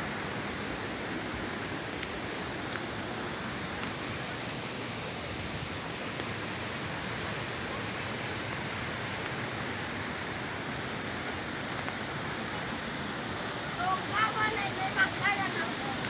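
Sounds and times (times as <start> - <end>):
rushing river water: 0.0 - 16.0.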